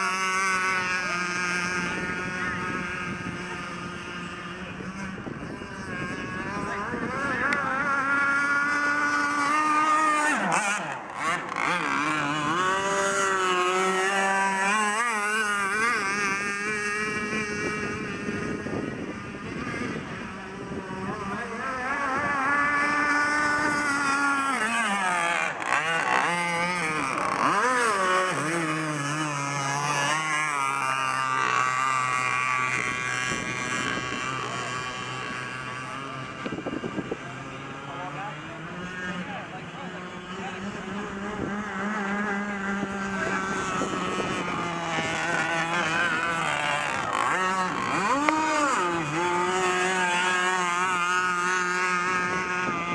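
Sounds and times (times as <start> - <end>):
model boat engine running hard: 0.0 - 52.9.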